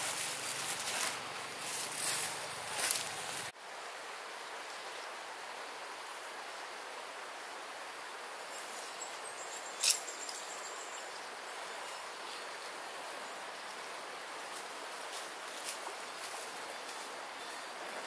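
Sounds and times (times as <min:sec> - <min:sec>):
insects buzzing: 0:00.0 - 0:18.0
stream water flowing: 0:00.0 - 0:18.0.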